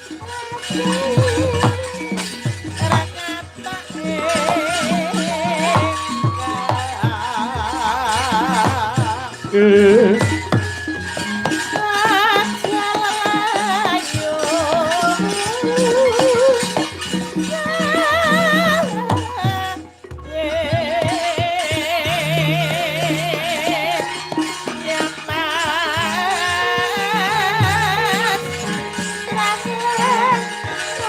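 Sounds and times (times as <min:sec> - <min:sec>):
gamelan percussion: 0:00.0 - 0:31.0
wavering melodic line: 0:00.0 - 0:31.0.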